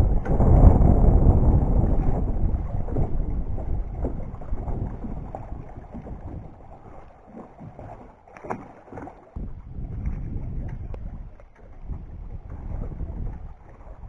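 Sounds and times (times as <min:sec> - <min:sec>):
wind buffeting microphone: 0:00.0 - 0:08.0, 0:09.4 - 0:14.0
water lapping around dock: 0:00.0 - 0:14.0.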